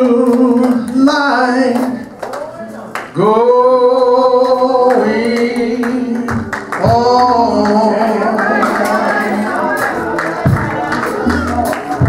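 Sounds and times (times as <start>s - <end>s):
person singing into microphone: 0.0s - 2.2s, 3.2s - 12.0s.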